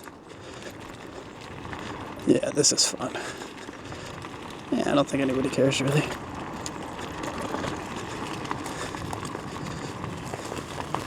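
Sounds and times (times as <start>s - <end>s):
small ticks and rattles: 0.0s - 11.0s
tyres rolling on dirt: 0.0s - 11.0s.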